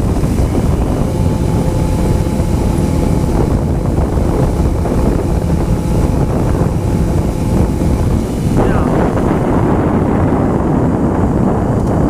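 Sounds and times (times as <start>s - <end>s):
motorcycle engine drone: 0.0s - 12.0s
wind buffeting microphone: 0.0s - 12.0s.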